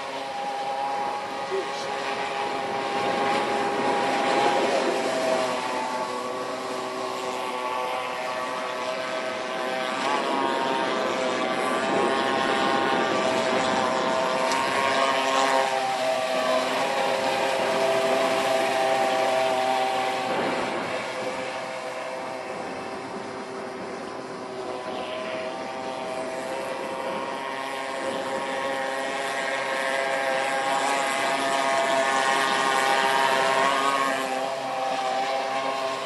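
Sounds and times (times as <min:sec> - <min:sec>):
model speedboat engine buzzing: 0:00.0 - 0:36.0.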